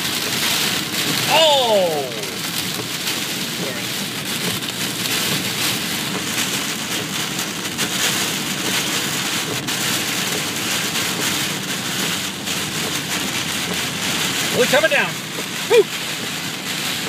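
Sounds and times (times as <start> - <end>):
heavy rain on car roof: 0.0 - 17.0
tyre noise on wet road: 0.0 - 17.0.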